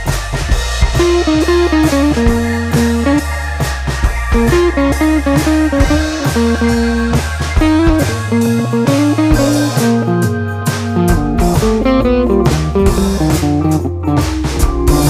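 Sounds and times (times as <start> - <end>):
guitar-led background music: 0.0 - 15.0.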